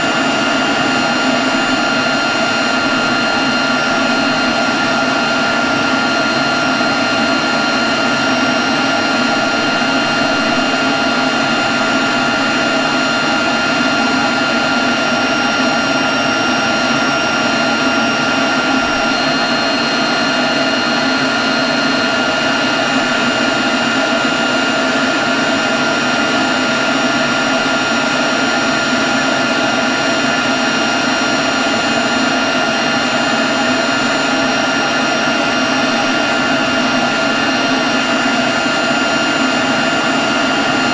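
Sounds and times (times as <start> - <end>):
leaf blower running: 0.0 - 40.9.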